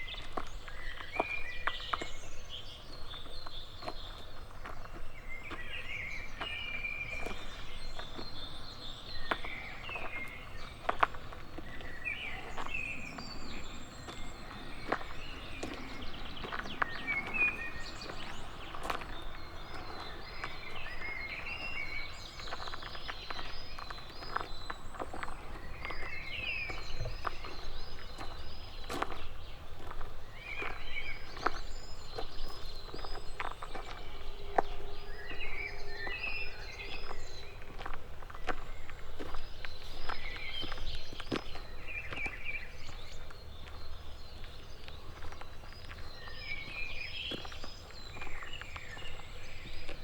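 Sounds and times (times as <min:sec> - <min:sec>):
birds singing and chirping: 0:00.0 - 0:50.0
footsteps on a path: 0:00.0 - 0:50.0.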